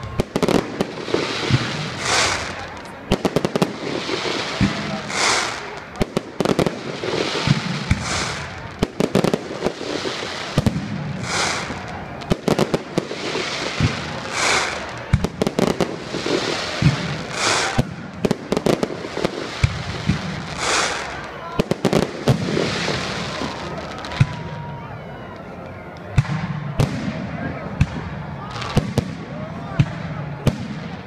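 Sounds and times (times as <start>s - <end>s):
fireworks bangs: 0.0s - 31.0s
fireworks hissing crackle: 0.0s - 31.0s.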